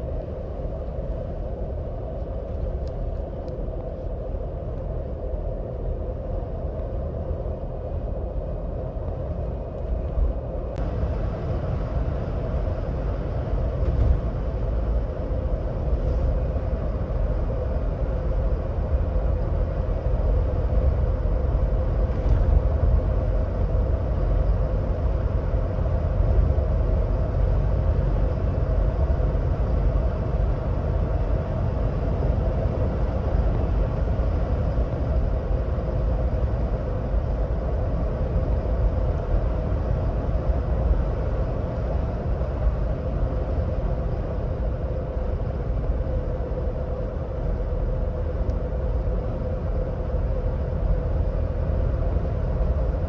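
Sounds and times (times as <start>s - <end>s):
constant hum: 0.0s - 53.0s
road and tyre noise: 0.0s - 53.0s.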